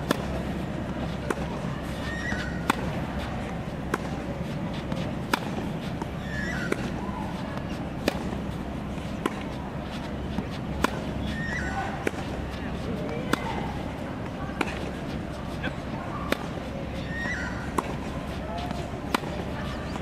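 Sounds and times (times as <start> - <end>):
tennis racket hitting ball: 0.0 - 20.0.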